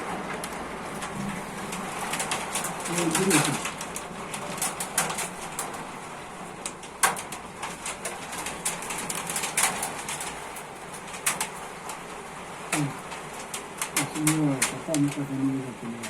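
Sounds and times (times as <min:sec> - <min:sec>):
hailstones striking hard: 0:00.0 - 0:16.0
heavy hail and rain: 0:00.0 - 0:16.0.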